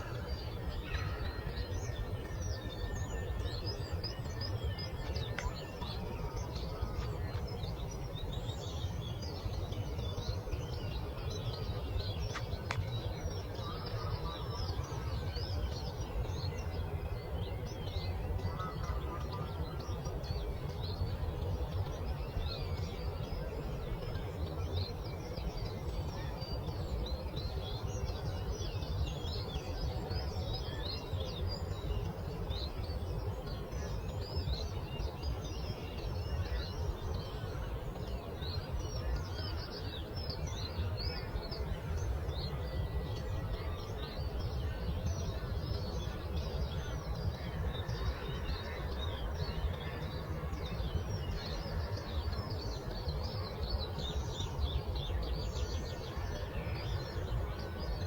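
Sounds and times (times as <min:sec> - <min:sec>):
low rumble of breeze or water: 0:00.0 - 0:58.0
songbirds chirping chorus: 0:00.0 - 0:58.0.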